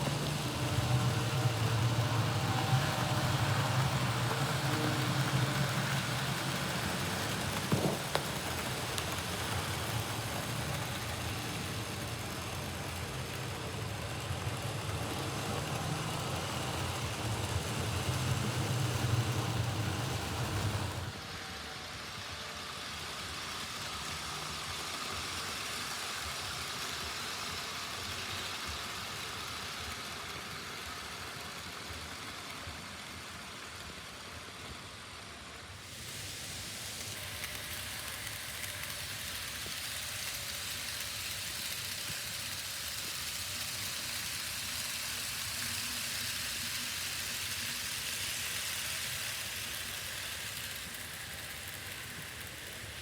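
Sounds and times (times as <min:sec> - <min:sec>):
model train wheels clattering: 0:00.0 - 0:53.0
small electric motors whirring: 0:00.0 - 0:53.0.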